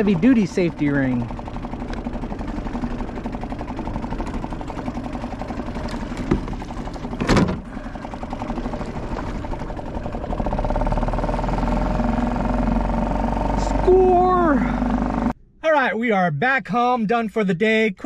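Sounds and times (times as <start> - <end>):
small gasoline motor running: 0.0 - 15.4.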